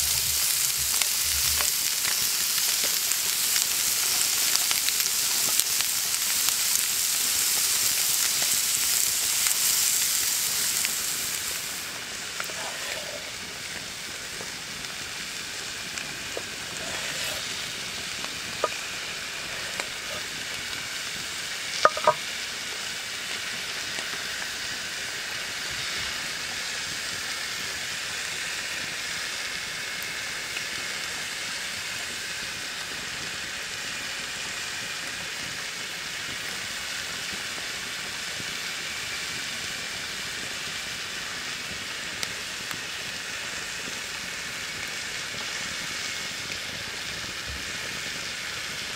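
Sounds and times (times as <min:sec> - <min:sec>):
food sizzling in hot oil: 0:00.0 - 0:48.9.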